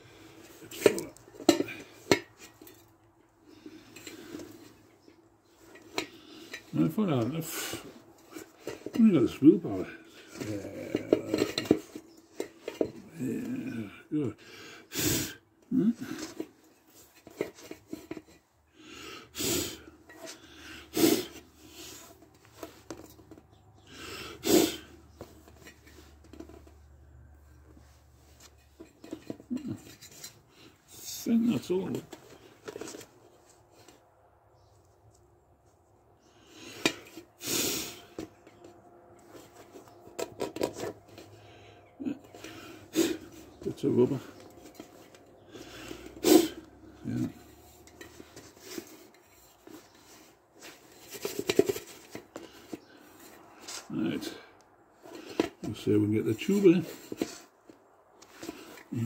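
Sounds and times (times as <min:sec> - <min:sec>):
scraping and handling: 0:00.1 - 0:14.4, 0:15.6 - 0:18.6, 0:19.4 - 0:59.0.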